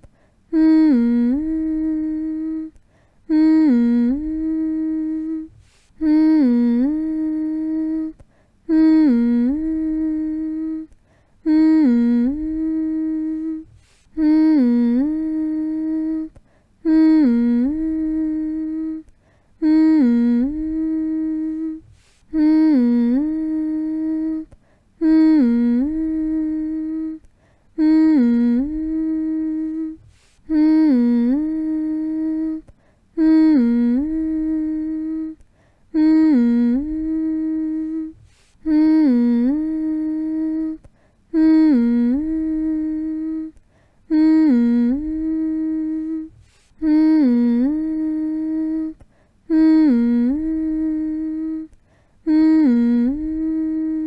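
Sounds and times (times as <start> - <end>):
person humming a lullaby: 0.0 - 54.0.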